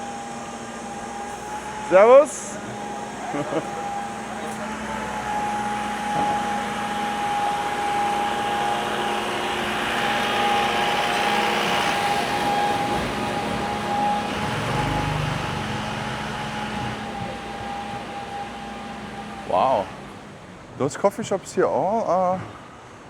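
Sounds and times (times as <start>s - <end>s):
small motorbike passing: 0.0s - 20.8s.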